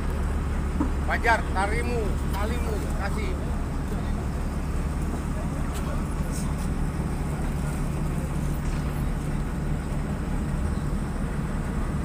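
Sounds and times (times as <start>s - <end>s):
large engine humming: 0.0s - 12.0s.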